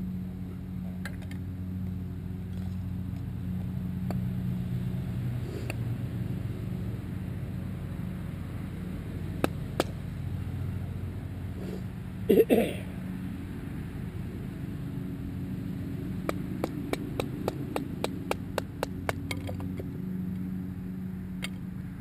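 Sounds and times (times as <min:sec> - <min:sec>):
low engine drone: 0:00.0 - 0:22.0.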